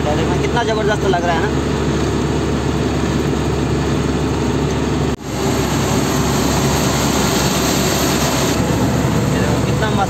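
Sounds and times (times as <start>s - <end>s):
road noise: 0.0s - 10.0s
truck engine running: 0.0s - 10.0s.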